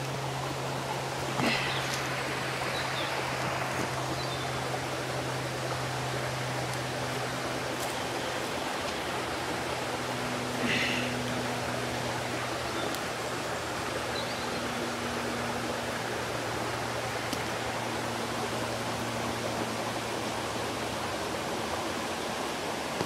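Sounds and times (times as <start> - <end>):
stream water flowing over stones: 0.0 - 23.0.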